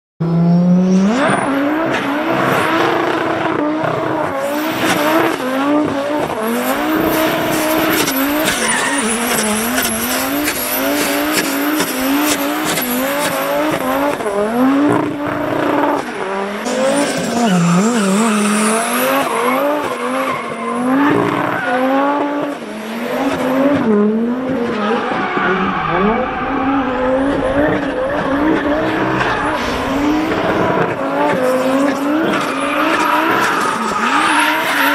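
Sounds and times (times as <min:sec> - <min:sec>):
car engine revving: 0:00.2 - 0:34.9
tyre squeal and skidding: 0:00.3 - 0:23.9, 0:24.5 - 0:34.9.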